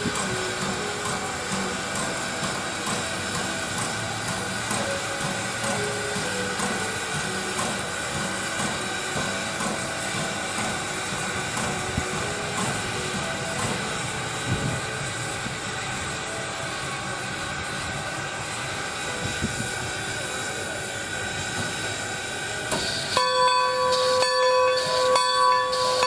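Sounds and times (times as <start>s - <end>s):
steam hissing: 0.0s - 26.0s
train rumbling along track: 0.0s - 26.0s.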